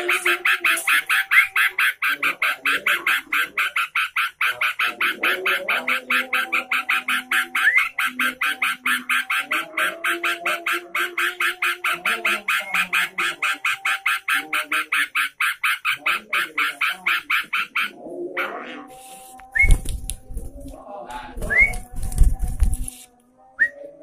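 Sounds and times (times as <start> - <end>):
bulbul harsh chattering song: 0.0 - 20.6.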